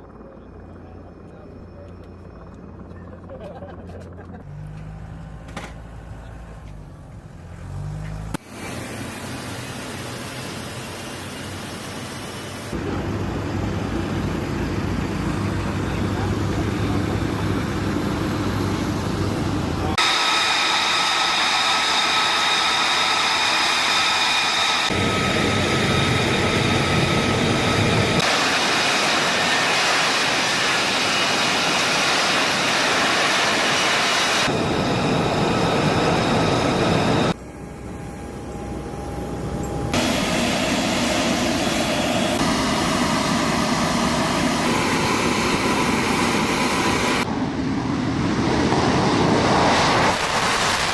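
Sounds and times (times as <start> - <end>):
jet engines running: 0.0 - 50.9.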